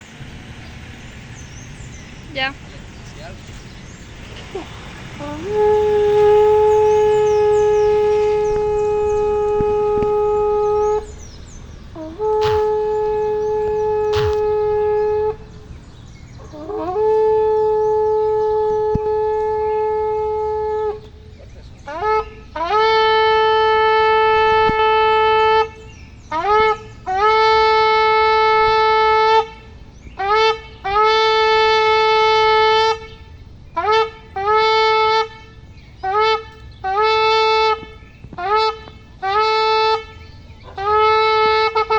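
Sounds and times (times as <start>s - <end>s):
ram's horn blasts: 0.0s - 41.9s.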